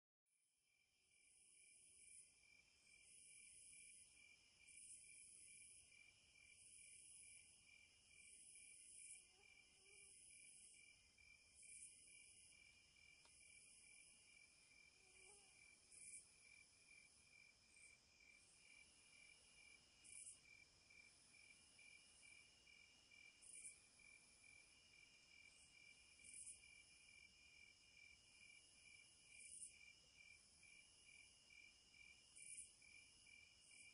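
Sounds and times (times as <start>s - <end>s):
insect trill: 1.1s - 33.9s.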